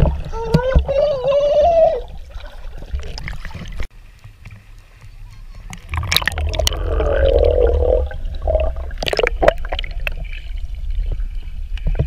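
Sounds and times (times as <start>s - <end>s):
bubbling: 0.0s - 3.9s, 5.6s - 12.0s
muffled underwater rumble: 0.0s - 12.0s.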